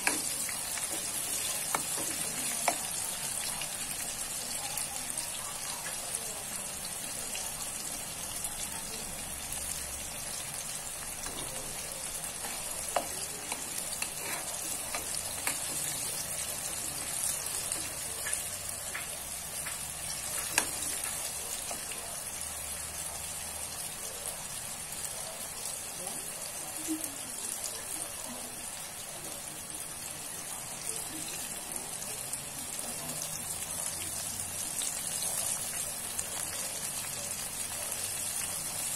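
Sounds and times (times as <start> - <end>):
eggplant sizzling in hot oil: 0.0 - 38.9.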